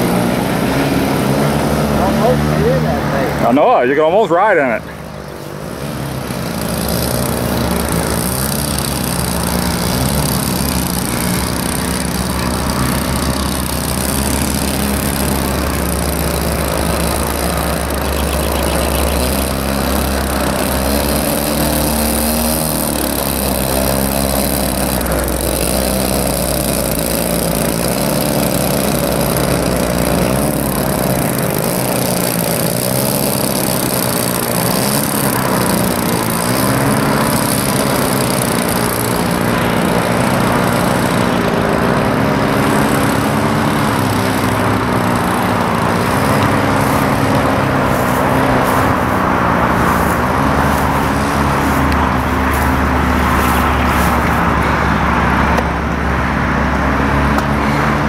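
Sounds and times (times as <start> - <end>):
model plane engines running: 0.0 - 58.0.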